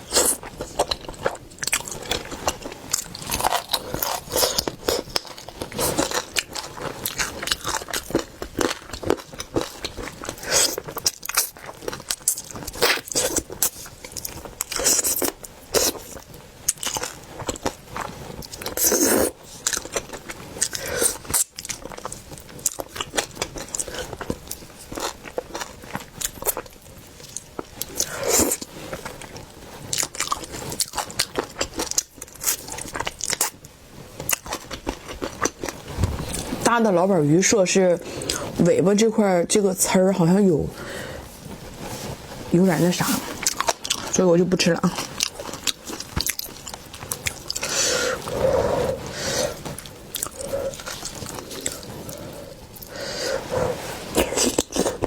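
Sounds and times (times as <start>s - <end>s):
crunchy chewing: 0.0s - 33.6s, 34.2s - 36.6s, 43.0s - 44.2s, 44.9s - 55.0s.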